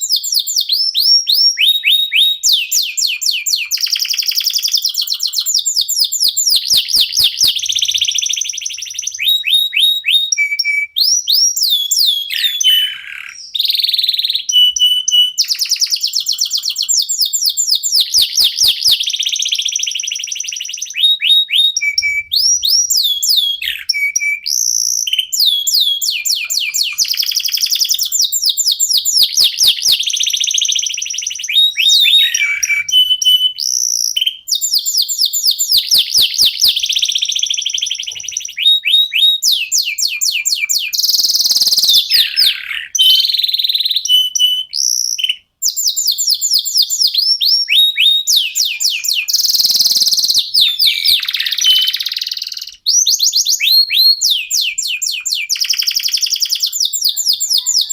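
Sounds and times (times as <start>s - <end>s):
canaries singing: 0.0s - 57.9s.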